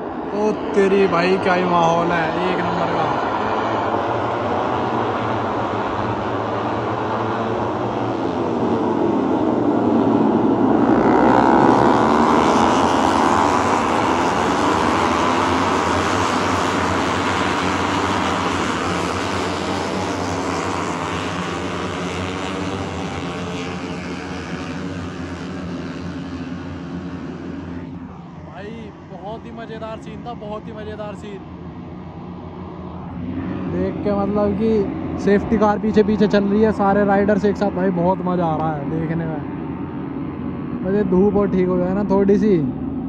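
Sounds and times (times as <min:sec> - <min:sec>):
racing motorcycles passing at speed: 0:00.0 - 0:43.0.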